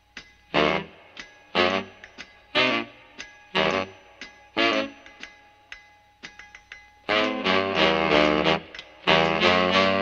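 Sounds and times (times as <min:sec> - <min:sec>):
light cartoon music notes: 0:00.0 - 0:10.0.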